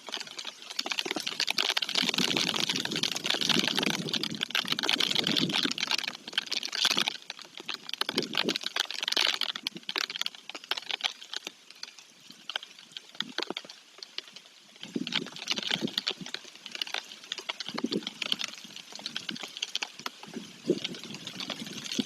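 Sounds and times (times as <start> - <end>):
rain dripping and tapping: 0.0 - 22.0.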